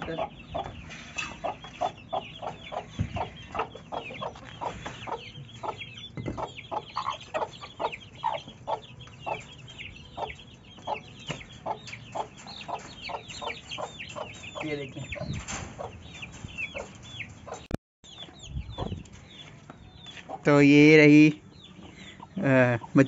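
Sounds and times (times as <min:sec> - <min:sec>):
chicks peeping: 0:00.0 - 0:23.0
hen clucking: 0:00.0 - 0:23.0.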